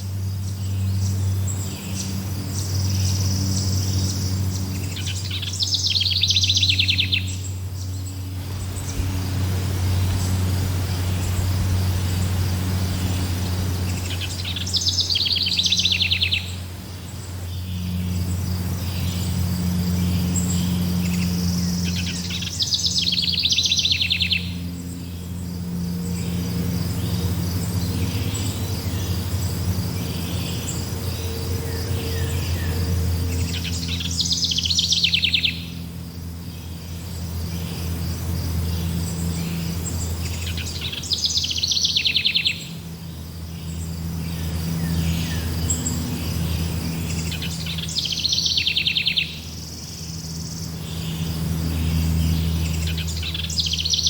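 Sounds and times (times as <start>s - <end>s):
insects chirring: 0.0s - 54.0s
low steady hum: 0.0s - 54.0s.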